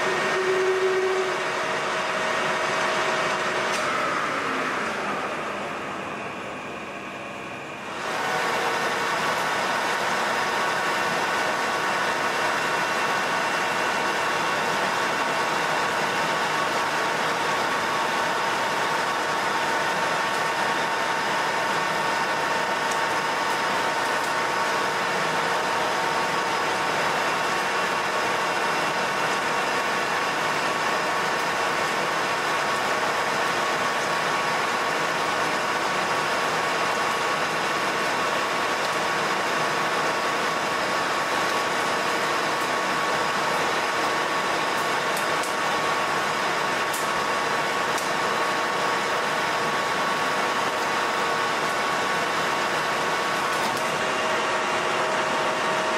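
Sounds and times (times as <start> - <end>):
lathe whining: 0.0 - 55.9.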